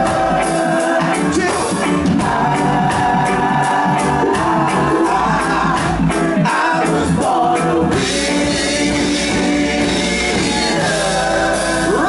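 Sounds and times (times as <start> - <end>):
drum beat: 0.0 - 6.3, 7.9 - 12.0
group singing: 0.0 - 12.0
reggae band playing: 0.0 - 12.0.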